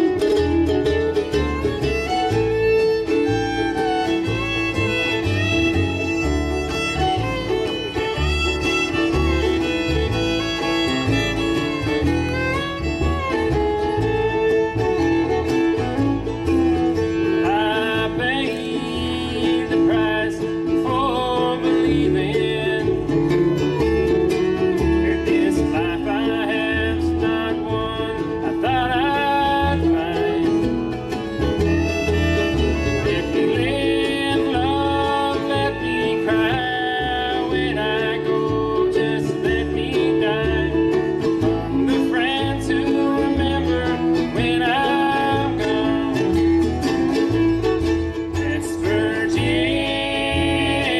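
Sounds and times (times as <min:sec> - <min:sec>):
acoustic guitar: 0:00.0 - 0:50.9
fiddle: 0:00.0 - 0:50.9
mandolin: 0:00.0 - 0:50.9
upright bass walking line: 0:00.0 - 0:50.9.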